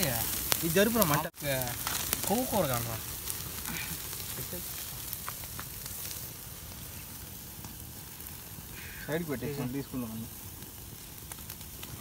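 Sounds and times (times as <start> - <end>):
chicken sizzling on a grill: 0.0 - 12.0
fire crackling pops: 0.0 - 12.0.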